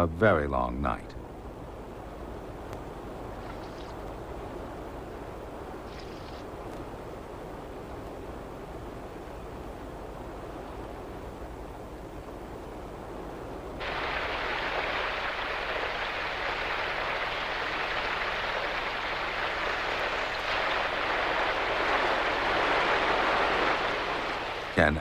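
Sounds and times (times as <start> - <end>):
heavy rain: 1.2 - 25.0.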